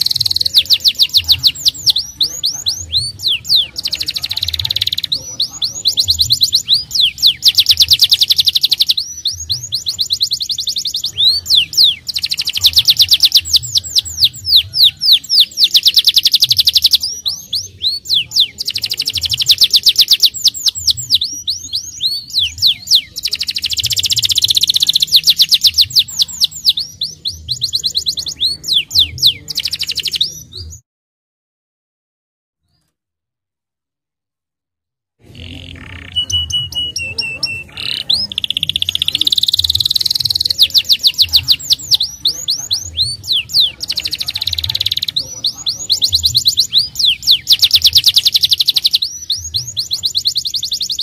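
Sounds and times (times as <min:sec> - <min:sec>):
canary singing trills: 0:00.0 - 0:30.8, 0:35.2 - 0:51.0.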